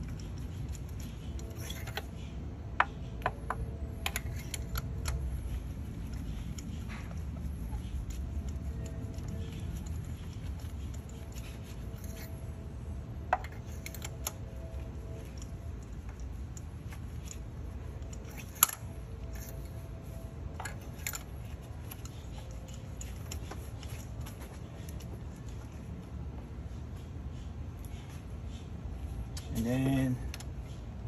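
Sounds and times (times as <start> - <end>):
low steady background rumble: 0.0 - 31.0.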